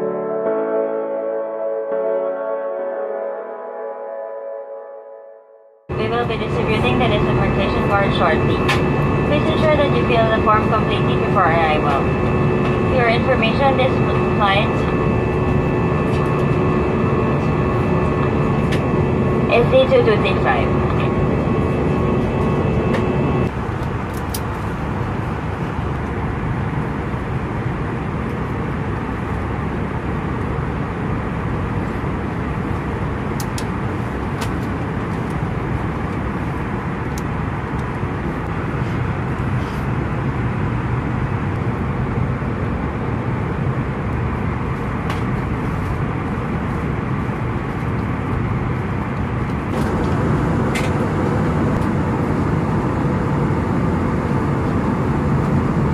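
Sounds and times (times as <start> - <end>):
airliner cabin noise: 5.9 - 55.9.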